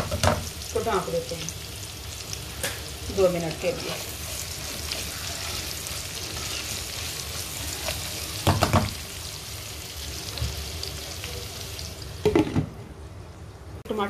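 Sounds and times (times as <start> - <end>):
onions sizzling in oil: 0.0 - 12.6.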